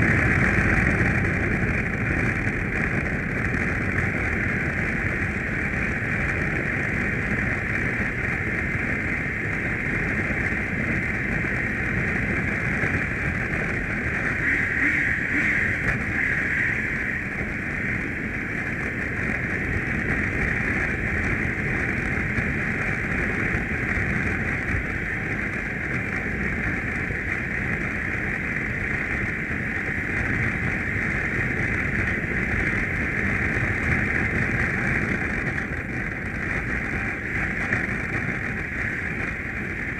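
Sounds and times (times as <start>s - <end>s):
motorcycle engine running low: 0.0s - 39.9s
road noise: 0.0s - 39.9s
wind rush on microphone: 0.0s - 39.9s.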